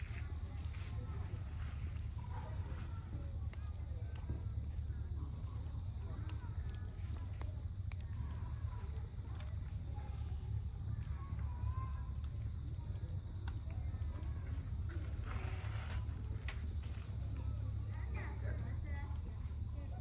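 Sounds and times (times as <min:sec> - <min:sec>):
campfire crackling: 0:00.0 - 0:20.0
distant children's voices: 0:00.0 - 0:20.0
insects chirping: 0:00.0 - 0:20.0.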